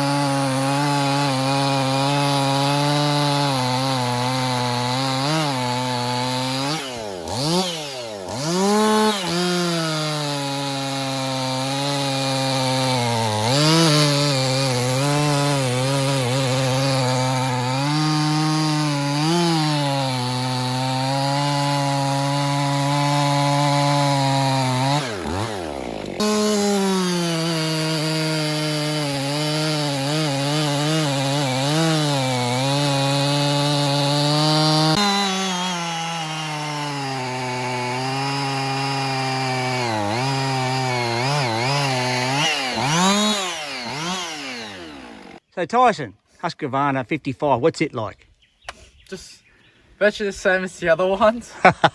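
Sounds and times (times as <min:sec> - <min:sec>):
chainsaw cutting log: 0:00.0 - 0:45.4.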